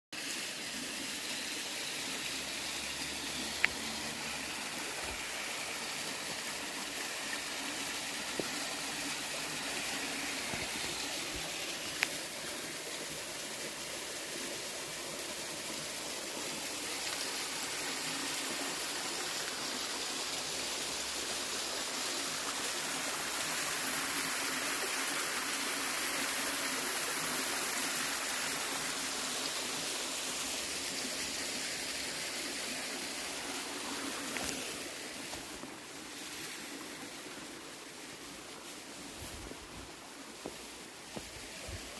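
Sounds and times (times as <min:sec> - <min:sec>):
stream water flowing: 0:00.1 - 0:41.9.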